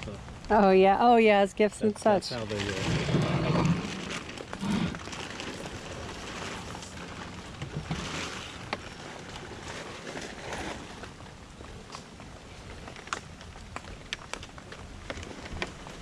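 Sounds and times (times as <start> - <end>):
rain falling: 1.7 - 16.0.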